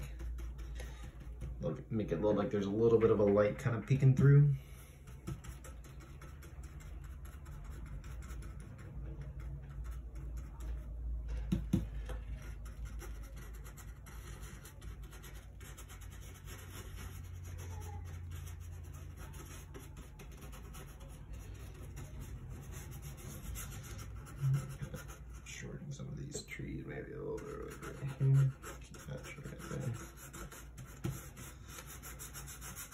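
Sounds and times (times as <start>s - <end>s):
paintbrush scrubbing on a panel: 0.0s - 1.7s, 4.6s - 25.6s, 27.2s - 32.9s
low steady hum: 0.0s - 32.9s.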